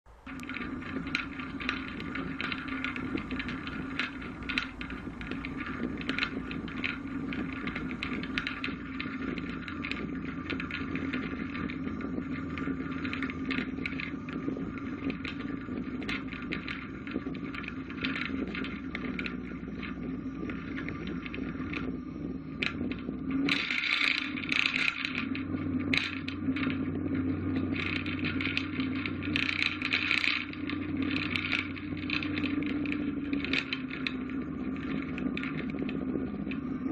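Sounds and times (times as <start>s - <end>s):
plane piston engine running: 0.0s - 36.9s
cockpit rattles and clicks: 0.1s - 36.9s.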